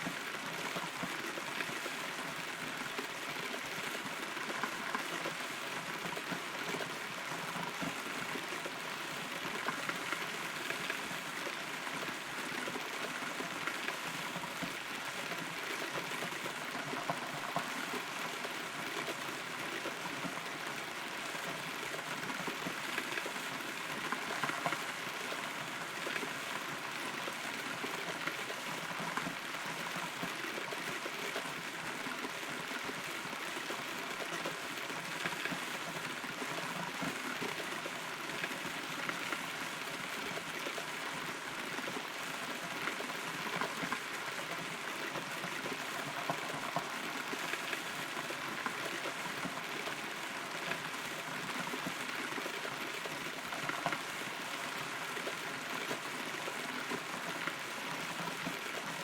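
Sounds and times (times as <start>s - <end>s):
rain pattering on tree: 0.0s - 59.0s.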